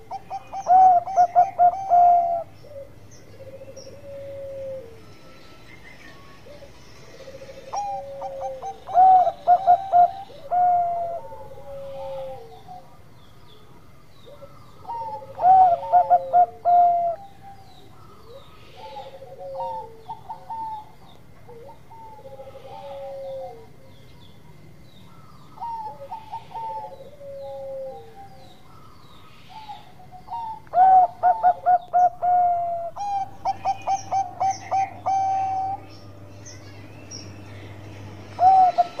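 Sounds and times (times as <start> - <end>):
dove cooing: 0.0 - 5.1, 6.1 - 24.2, 25.1 - 36.1, 38.3 - 39.0.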